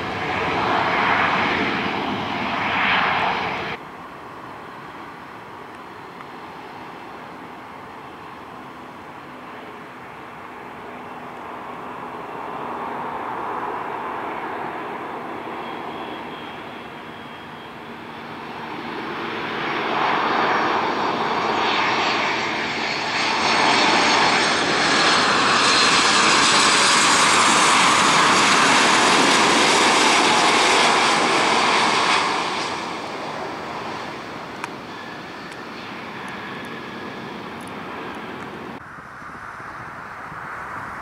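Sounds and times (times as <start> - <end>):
jet engines rushing: 0.0 - 41.0.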